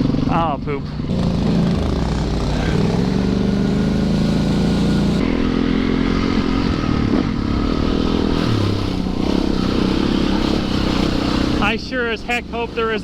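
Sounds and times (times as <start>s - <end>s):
dirt bike engine under throttle: 0.0s - 13.0s.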